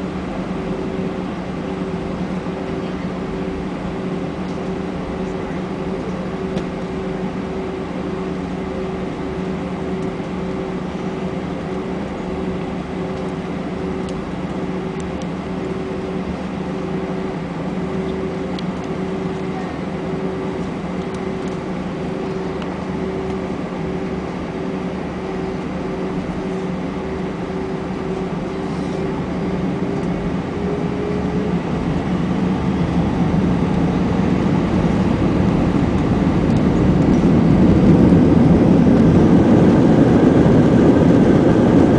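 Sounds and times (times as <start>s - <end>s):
jet engine cabin hum and whine: 0.0s - 41.9s.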